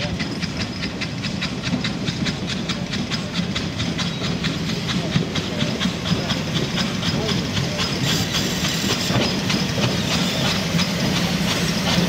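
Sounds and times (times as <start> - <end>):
faint voices: 0.0 - 12.0
steam locomotive hissing: 0.0 - 12.0.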